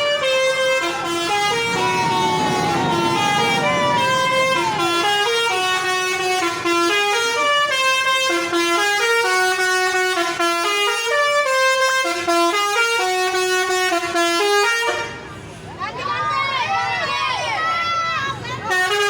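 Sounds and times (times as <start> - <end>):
multi-tone musical bus horn: 0.0 - 15.5, 18.5 - 19.0.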